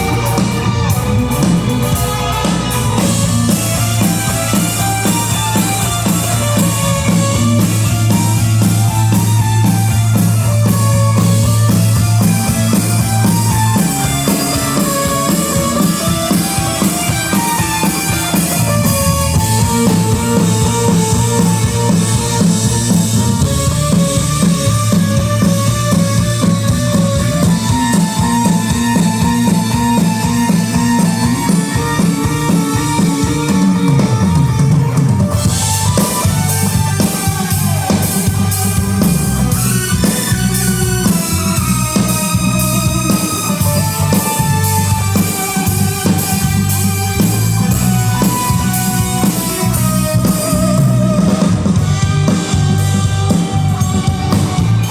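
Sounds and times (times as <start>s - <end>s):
bass drum and snare: 0.0s - 54.9s
live rock band playing: 0.0s - 54.9s.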